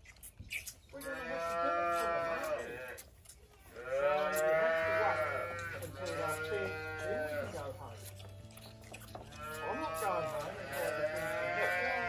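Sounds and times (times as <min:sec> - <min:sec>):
calves bawling: 0:00.0 - 0:12.0.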